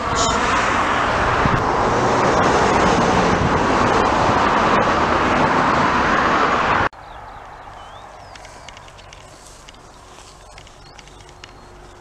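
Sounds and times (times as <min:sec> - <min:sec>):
road traffic rushing: 0:00.0 - 0:12.0.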